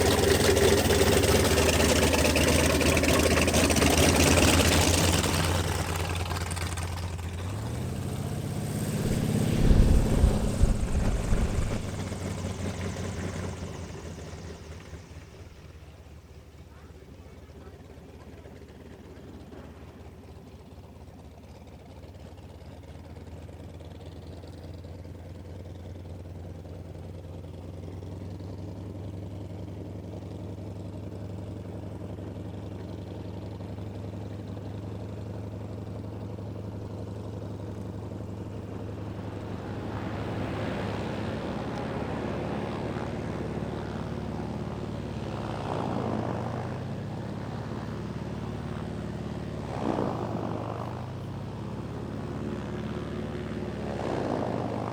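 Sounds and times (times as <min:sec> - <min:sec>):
radial aircraft engine running: 0:00.0 - 0:54.9.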